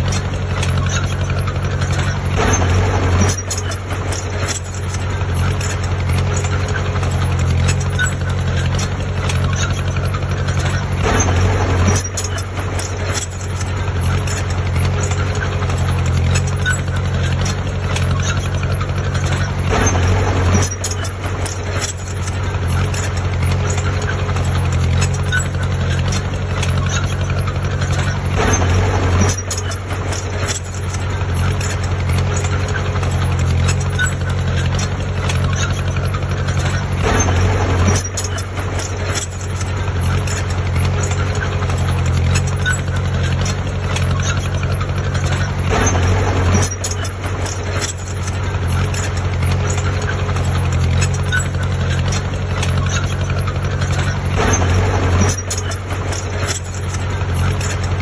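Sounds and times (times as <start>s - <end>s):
heavy diesel engine running: 0.0s - 58.0s
knocks and clanks: 0.0s - 58.0s.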